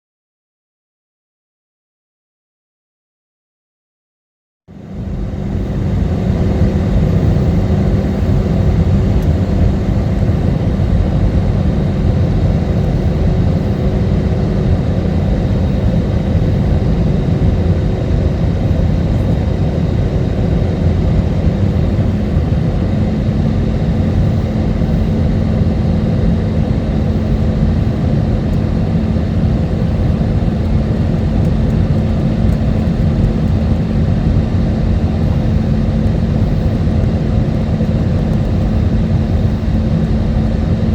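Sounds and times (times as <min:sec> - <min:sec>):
aircraft cabin engine roar: 0:04.7 - 0:40.9
low hum: 0:04.7 - 0:40.9.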